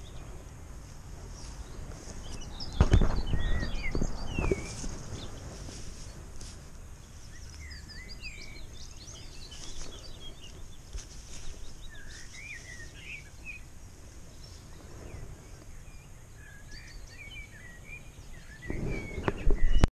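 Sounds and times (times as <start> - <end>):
songbirds chirping: 0.0 - 19.9
steady low rumble: 0.0 - 19.9.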